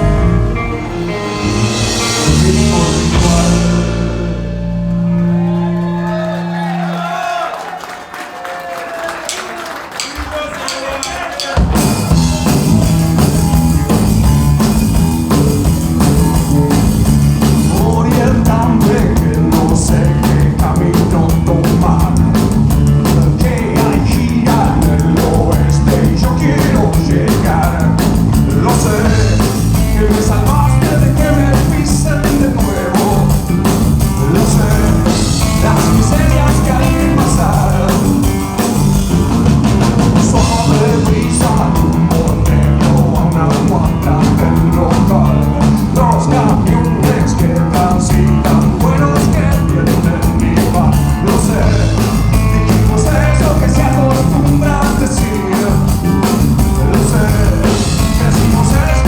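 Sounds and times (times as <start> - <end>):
rock band playing live: 0.0 - 6.5, 9.9 - 59.0.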